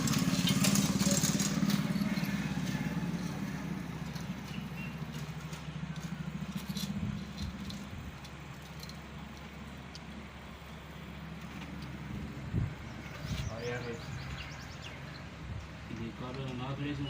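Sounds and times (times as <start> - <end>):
engine running with even pulse: 0.0 - 15.8.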